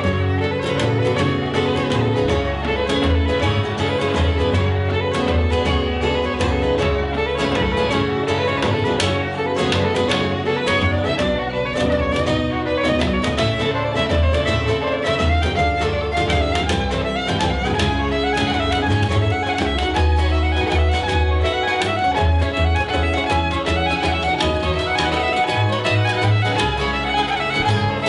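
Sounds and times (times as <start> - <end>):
fiddle melody: 0.0 - 28.0
strummed acoustic guitar: 0.0 - 28.0.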